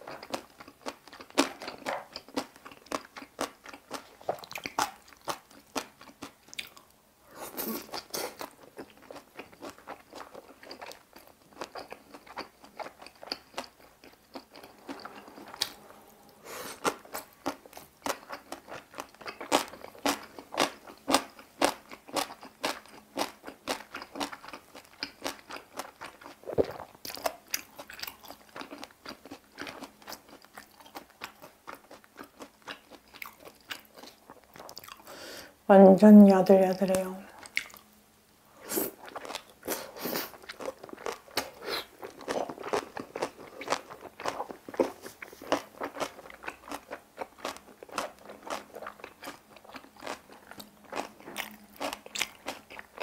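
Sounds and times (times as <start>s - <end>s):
wet chewing and crunching: 0.0s - 6.9s, 7.5s - 16.0s, 16.8s - 35.1s, 37.4s - 37.9s, 38.9s - 53.0s.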